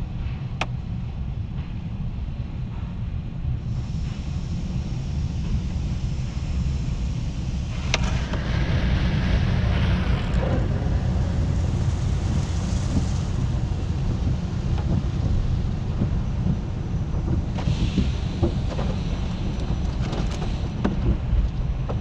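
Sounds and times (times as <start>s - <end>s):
car wash equipment rumble: 3.7s - 22.0s.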